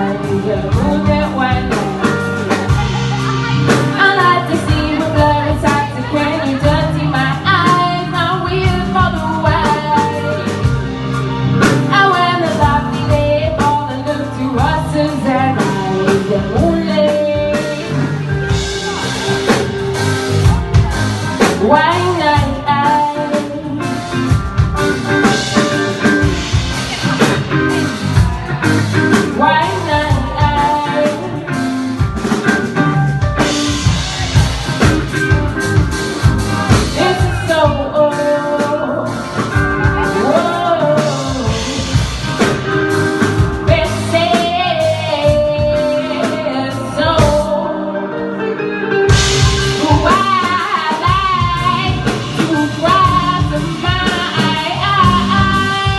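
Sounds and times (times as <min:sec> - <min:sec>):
person singing: 0:00.0 - 0:11.0, 0:11.6 - 0:55.9
live band playing: 0:00.0 - 0:55.9.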